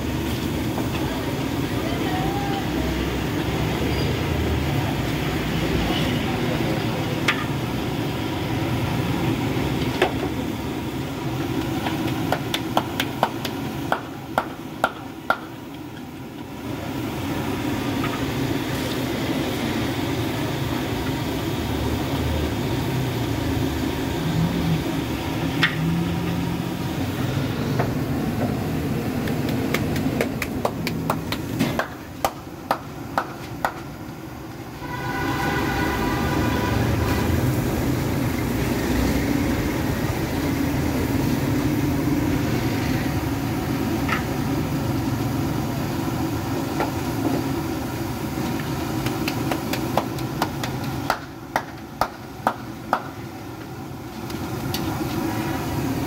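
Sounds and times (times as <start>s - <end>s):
bread deep-frying in hot oil: 0.0s - 30.6s, 36.5s - 56.0s
gas burner rushing: 2.4s - 56.0s.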